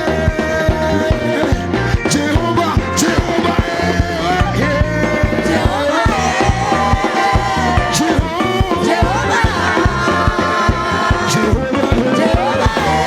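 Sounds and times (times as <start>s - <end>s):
worship band music: 0.0s - 13.0s.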